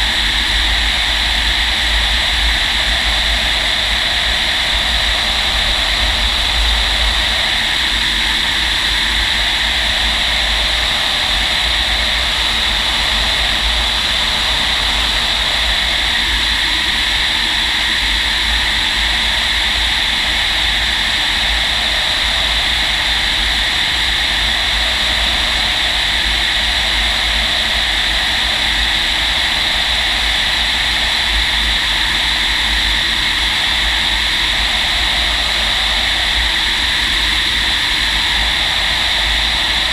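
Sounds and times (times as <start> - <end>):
airflow rushing in cockpit: 0.0 - 39.9.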